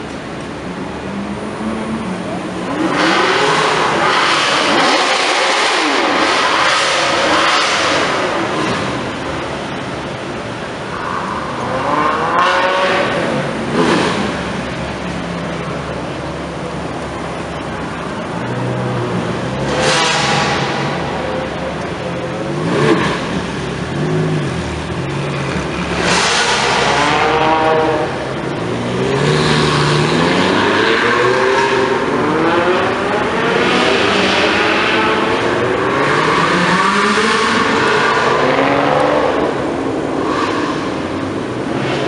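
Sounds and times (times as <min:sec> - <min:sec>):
sports car engines revving: 0:00.0 - 0:42.0.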